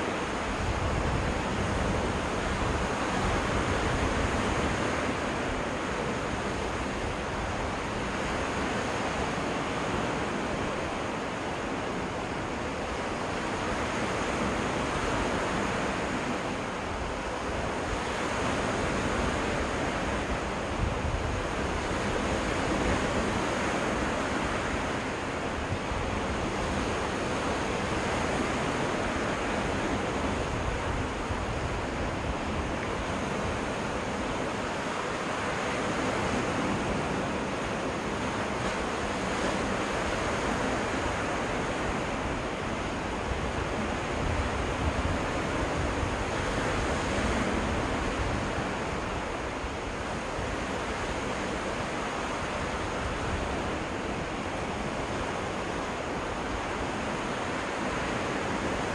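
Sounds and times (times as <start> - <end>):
waves washing onto beach: 0.0 - 58.9
wind rumbling on microphone: 0.0 - 58.9.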